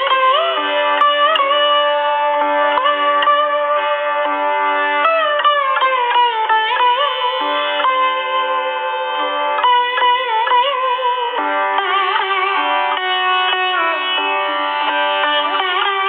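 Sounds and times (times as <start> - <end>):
twelve-string guitar melody: 0.0 - 16.0.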